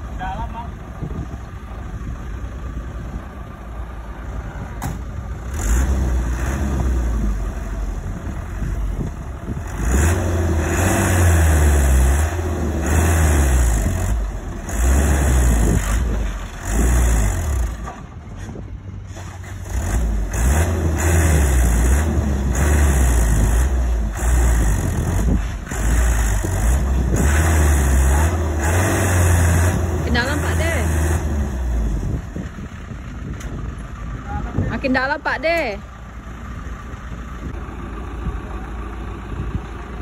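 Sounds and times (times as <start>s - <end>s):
diesel truck engine revving: 0.0s - 40.0s.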